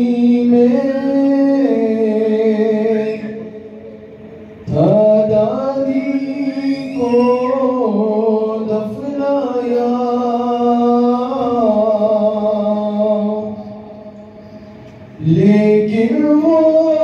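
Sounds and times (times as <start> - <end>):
man singing a lament: 0.0 - 3.6, 4.7 - 14.1, 15.2 - 17.0.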